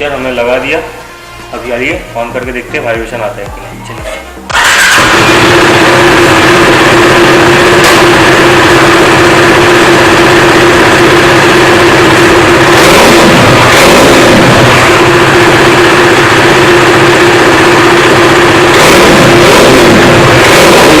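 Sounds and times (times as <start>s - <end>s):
motorcycle engine running: 2.3s - 21.0s.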